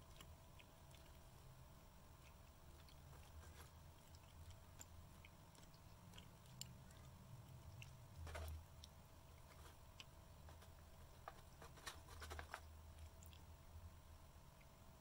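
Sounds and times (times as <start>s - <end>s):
faint chewing: 0.0s - 13.7s
faint steady hum: 0.0s - 15.0s.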